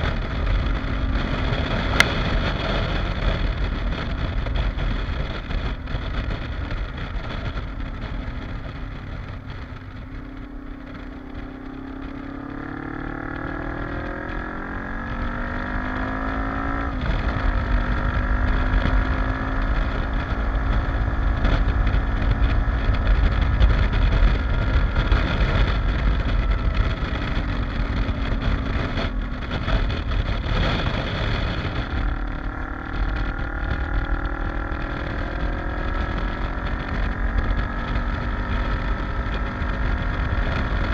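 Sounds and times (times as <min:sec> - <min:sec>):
motorcycle engine revving: 0:00.0 - 0:40.9
wind rumble on microphone: 0:00.0 - 0:40.9.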